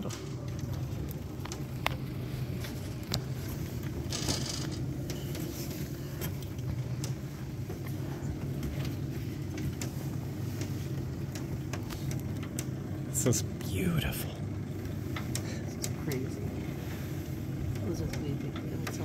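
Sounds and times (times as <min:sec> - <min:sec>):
lift motor humming: 0:00.0 - 0:19.0.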